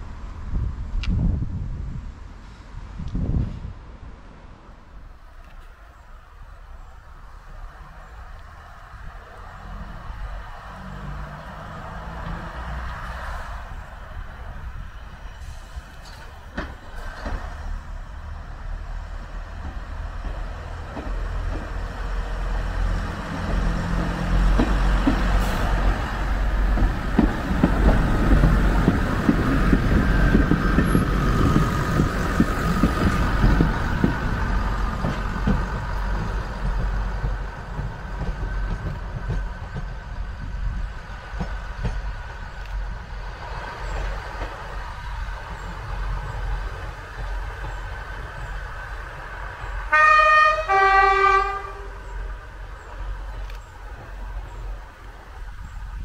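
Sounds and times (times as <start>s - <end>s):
diesel train passing: 0.0s - 56.0s.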